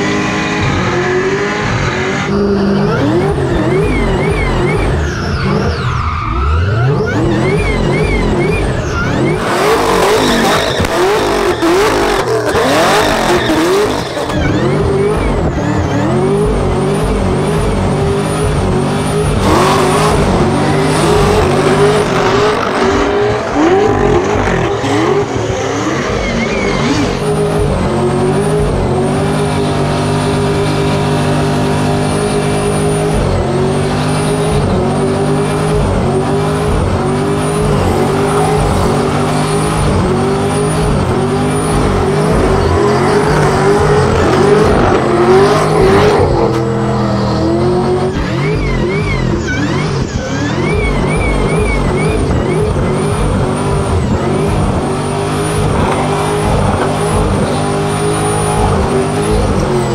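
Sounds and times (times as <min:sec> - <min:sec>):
tyre squeal: 0:00.0 - 0:16.6, 0:17.6 - 0:27.6, 0:30.6 - 0:59.9
car engine revving hard: 0:00.0 - 0:59.9.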